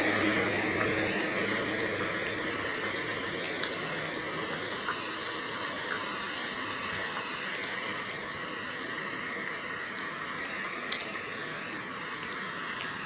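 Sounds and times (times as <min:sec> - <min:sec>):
water rushing in canal: 0:00.0 - 0:13.0.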